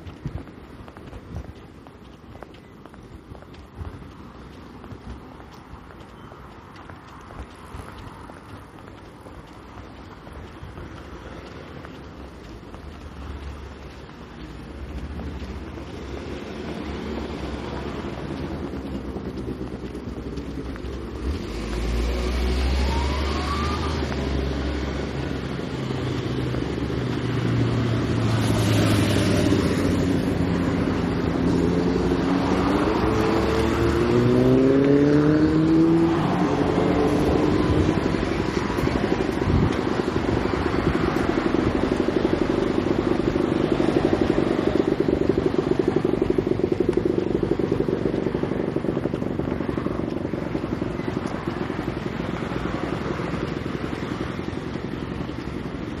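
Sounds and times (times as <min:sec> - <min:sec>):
motor vehicles passing: 0:00.0 - 0:56.0
engine pulling away: 0:11.0 - 0:56.0.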